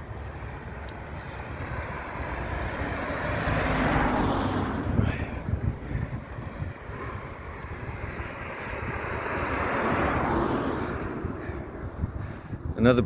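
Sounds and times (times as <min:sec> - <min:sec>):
road rumble: 0:00.0 - 0:13.0
vehicle passing close by: 0:00.0 - 0:13.0
wind on microphone: 0:00.0 - 0:13.0.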